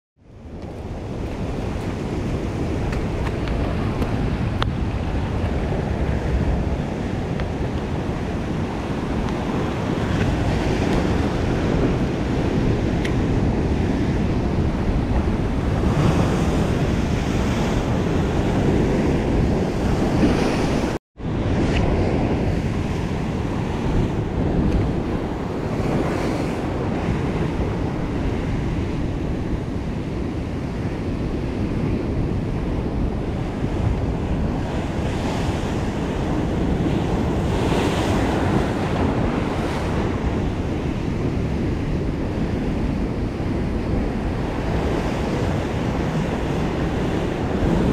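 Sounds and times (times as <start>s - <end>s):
wind buffeting microphone: 0.2s - 47.9s.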